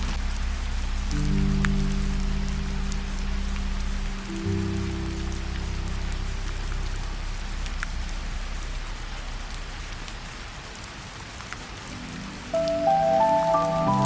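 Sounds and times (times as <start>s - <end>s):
rain drop ticks: 0.0s - 14.0s
soft background music: 0.0s - 14.0s
steady rain hiss: 0.0s - 14.0s.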